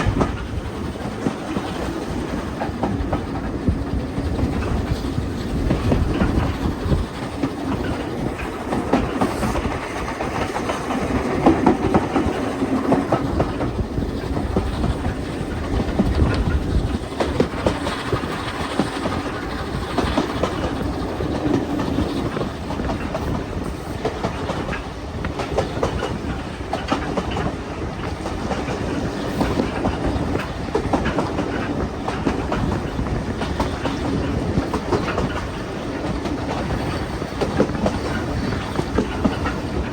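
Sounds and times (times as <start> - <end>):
train rumbling on rails: 0.0 - 39.9
wheels clicking over rail joints: 0.0 - 39.9.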